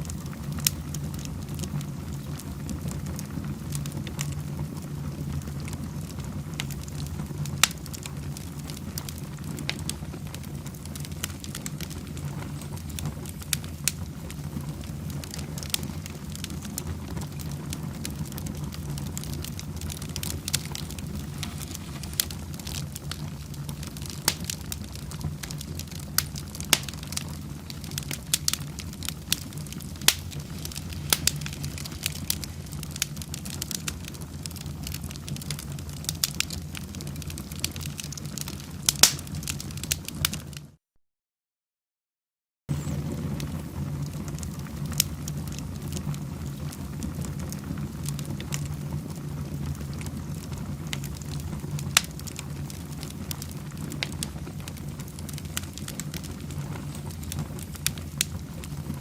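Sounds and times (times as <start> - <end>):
fire crackling and popping: 0.0 - 40.8, 42.7 - 59.0
low rumble of fire: 0.0 - 40.8, 42.7 - 59.0.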